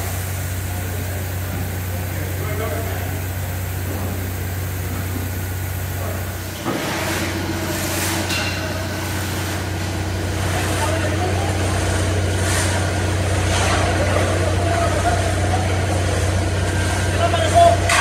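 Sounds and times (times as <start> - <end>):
concrete pump engine running: 0.0 - 18.0.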